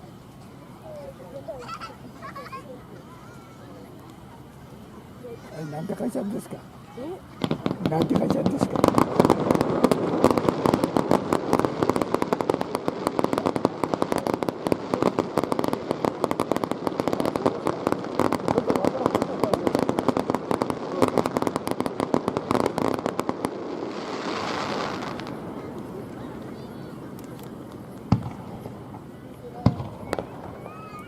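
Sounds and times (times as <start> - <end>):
fireworks crackling: 0.0 - 31.0.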